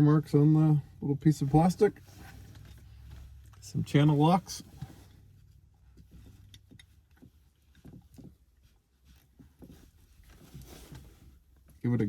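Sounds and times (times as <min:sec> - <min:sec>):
cloth rustling: 0:01.4 - 0:11.8.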